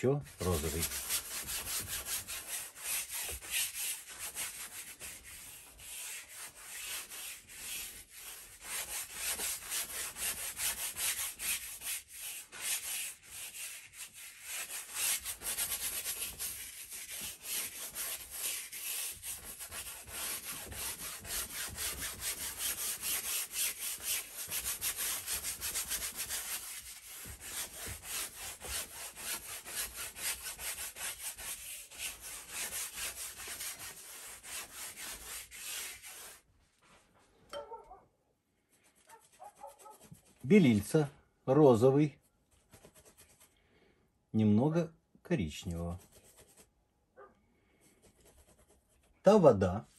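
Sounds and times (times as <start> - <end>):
brush scrubbing paint on canvas: 0.3 - 37.2, 38.6 - 41.1, 42.2 - 43.6, 45.7 - 46.8, 47.8 - 49.2.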